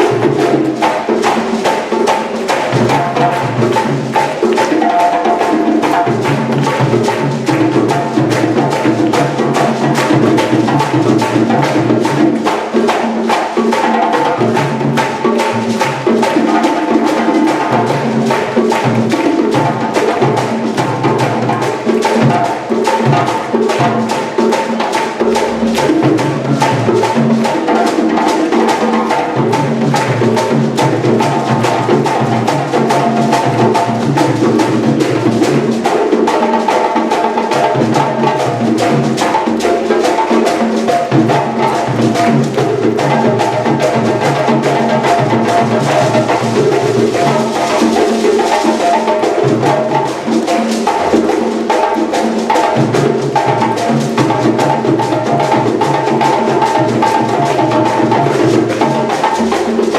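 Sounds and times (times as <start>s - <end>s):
drums and wood-block strikes: 0.0s - 59.9s.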